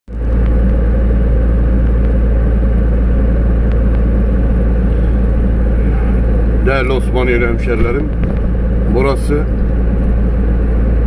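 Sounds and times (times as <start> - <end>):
car engine and road rumble: 0.1 - 11.0.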